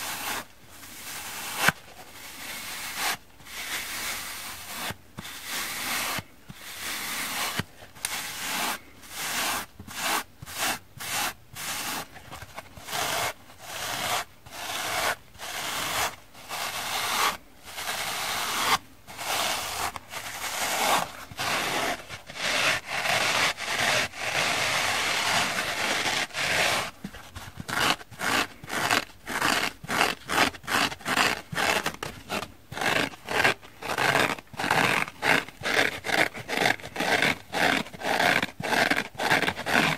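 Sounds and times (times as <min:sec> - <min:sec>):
sponges rubbing and scratching: 0:00.0 - 0:39.9.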